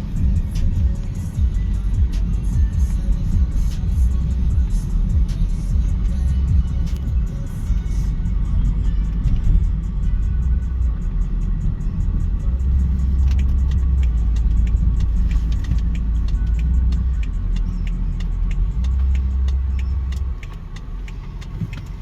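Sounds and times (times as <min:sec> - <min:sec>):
fast hi-hat ticks: 0:00.0 - 0:22.0
music with deep bass line: 0:00.0 - 0:22.0.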